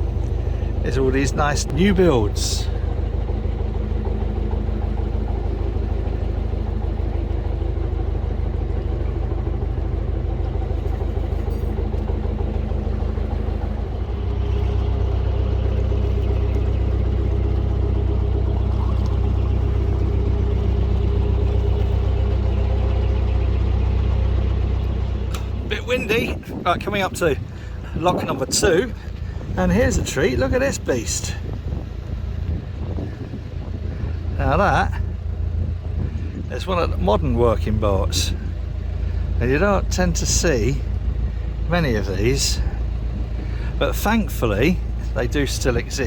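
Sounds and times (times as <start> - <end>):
boat diesel engine droning: 0.0 - 46.0.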